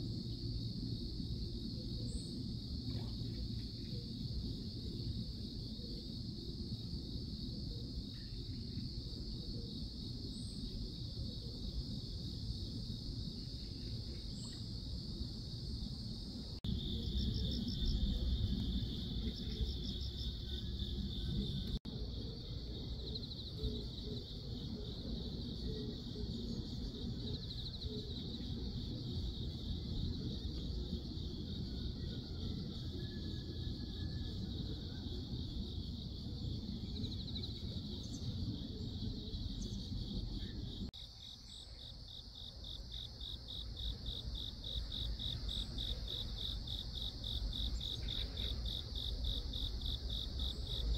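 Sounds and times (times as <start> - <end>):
crickets chirring: 0.0 - 50.9
rapid pulsed insect trills: 0.0 - 50.9.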